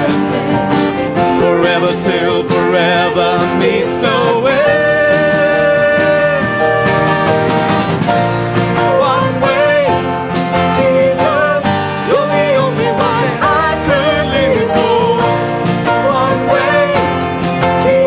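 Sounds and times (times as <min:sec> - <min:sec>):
guitar: 0:00.0 - 0:18.0
worship band playing slow song: 0:00.0 - 0:18.0.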